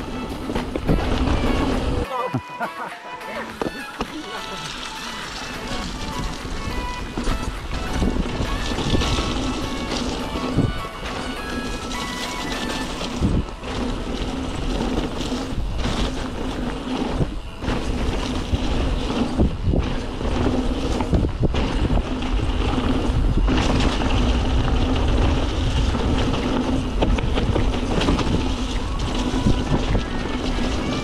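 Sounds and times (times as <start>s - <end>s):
bike rattling over rocks: 0.0s - 2.1s, 3.6s - 31.0s
rumble of bike tyres and frame: 0.0s - 2.1s, 3.6s - 31.0s
wind buffeting microphone: 0.0s - 2.1s, 5.4s - 31.0s.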